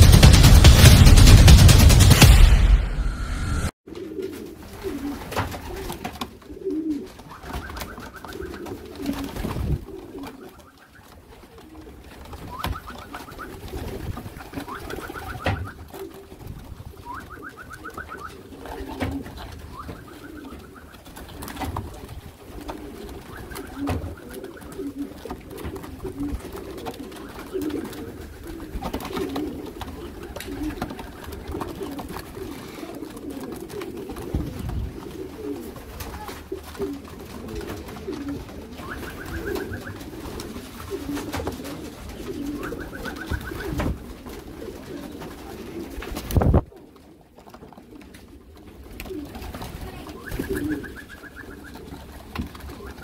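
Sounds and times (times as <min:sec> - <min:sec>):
wings flapping: 0:00.0 - 0:02.4, 0:03.6 - 0:53.0
pigeons cooing: 0:03.9 - 0:53.0.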